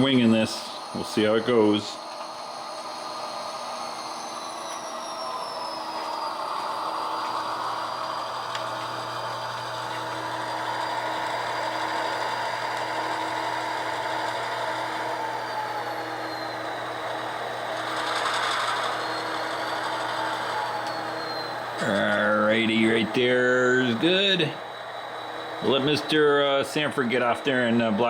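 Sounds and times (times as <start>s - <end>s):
model diesel locomotive engine: 0.0s - 28.0s.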